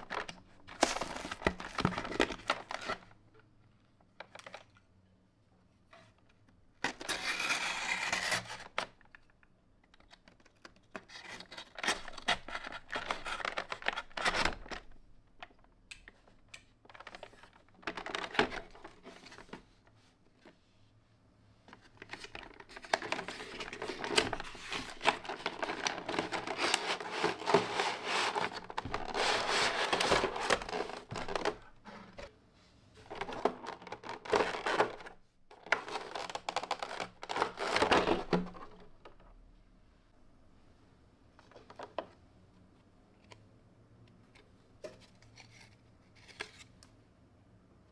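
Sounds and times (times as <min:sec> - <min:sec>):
crinkling and rustling: 0:00.0 - 0:05.0, 0:05.9 - 0:20.9, 0:21.6 - 0:39.4, 0:41.3 - 0:43.4, 0:44.2 - 0:46.9.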